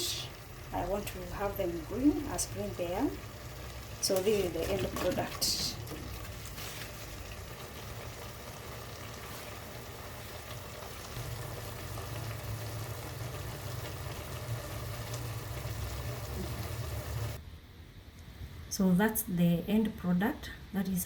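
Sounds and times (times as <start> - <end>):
food sizzling in a pan: 0.0 - 17.4.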